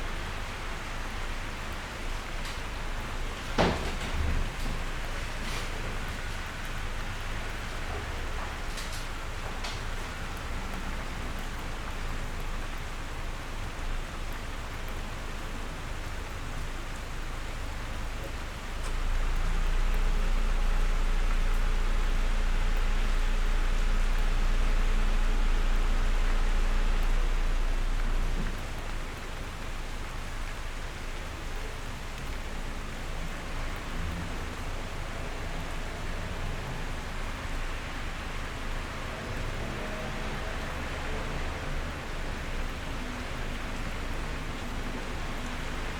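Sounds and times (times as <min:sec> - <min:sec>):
rain pattering: 0:00.0 - 0:45.9.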